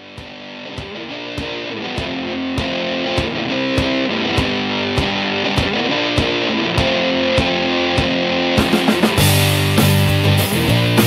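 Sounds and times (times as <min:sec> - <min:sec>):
electric guitar chords: 0:00.0 - 0:11.0
heavy low guitar: 0:00.0 - 0:11.0
rock music: 0:00.0 - 0:11.0
steady drum beat: 0:00.0 - 0:11.0.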